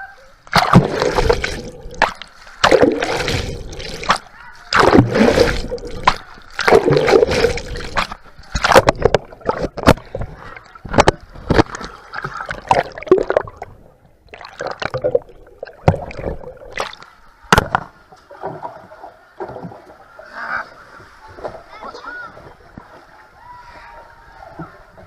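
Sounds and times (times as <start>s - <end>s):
water splashing around a boat: 0.4s - 25.0s.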